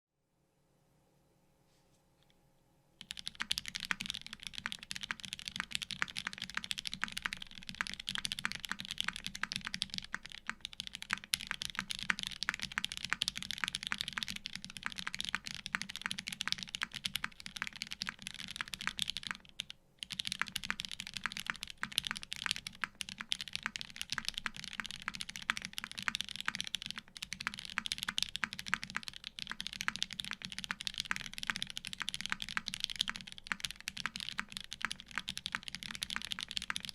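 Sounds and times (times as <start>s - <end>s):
mechanical keyboard typing: 3.0s - 36.9s.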